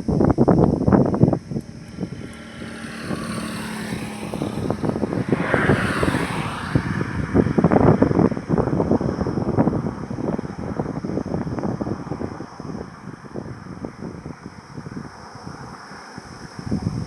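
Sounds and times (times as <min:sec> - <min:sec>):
wind buffeting microphone: 0:00.0 - 0:17.0
vehicle passing on highway: 0:00.5 - 0:17.0.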